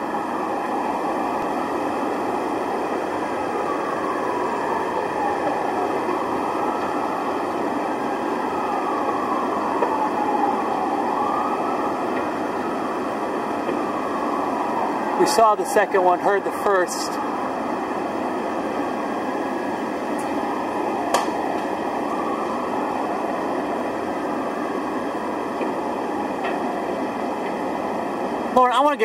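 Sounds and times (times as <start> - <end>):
emergency siren wailing: 0.0 - 29.0
street noise: 0.0 - 29.0.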